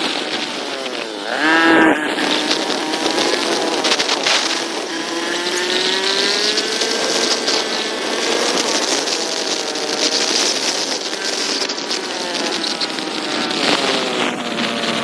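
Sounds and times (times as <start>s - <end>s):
motorcycle engine running: 0.0s - 15.0s
steady rushing hiss: 0.0s - 15.0s.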